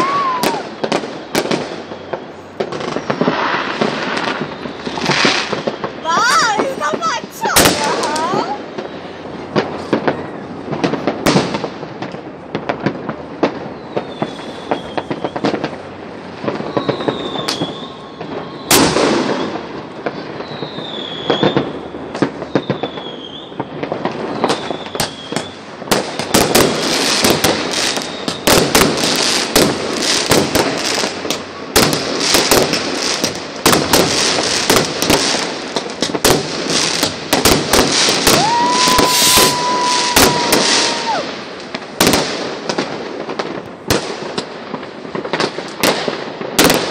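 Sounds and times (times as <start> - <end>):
firework whistles: 0.0 - 11.6, 13.4 - 42.7
fireworks bangs and crackles: 0.0 - 46.9.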